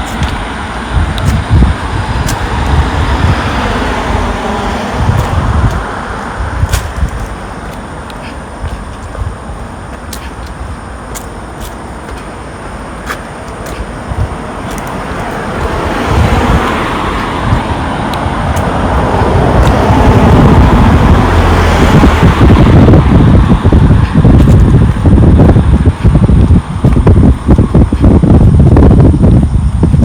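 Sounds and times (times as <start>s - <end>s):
vehicle tyre and engine noise: 0.0s - 30.0s.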